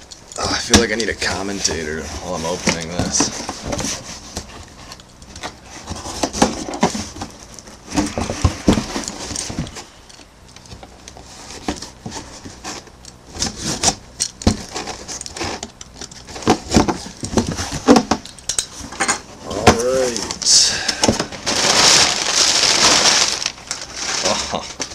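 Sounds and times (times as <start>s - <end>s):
cardboard rustling and scraping: 0.4s - 10.0s, 10.7s - 24.9s.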